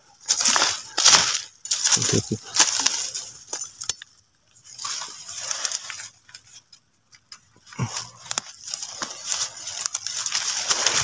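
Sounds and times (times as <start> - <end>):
undergrowth rustling: 0.0 - 11.0.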